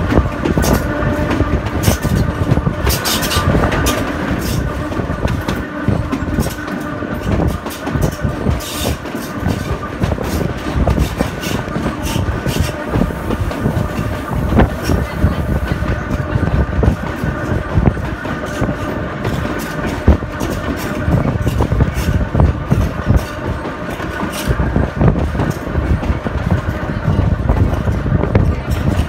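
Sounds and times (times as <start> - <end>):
train rumbling: 0.0 - 29.0
wheels clattering over rails: 0.0 - 29.0.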